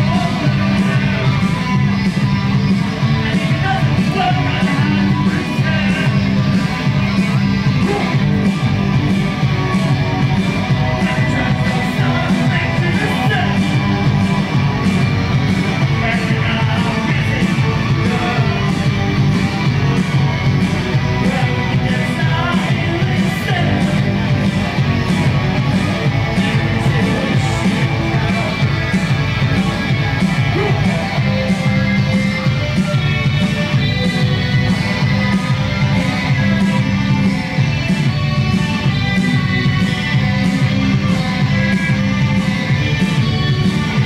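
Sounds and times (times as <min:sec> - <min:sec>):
guitar: 0:00.0 - 0:44.0
live band playing: 0:00.0 - 0:44.0
steady bass line: 0:00.0 - 0:44.0.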